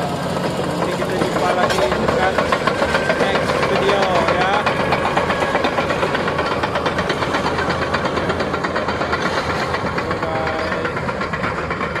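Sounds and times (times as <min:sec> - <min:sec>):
bulldozer diesel engine running: 0:00.0 - 0:12.0
steel tracks clattering: 0:00.0 - 0:12.0.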